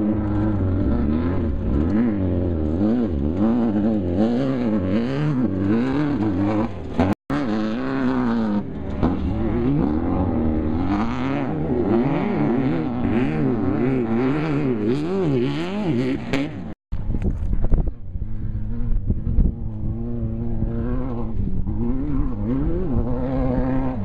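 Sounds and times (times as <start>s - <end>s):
engine revving hard: 0.0s - 16.8s, 19.8s - 24.0s.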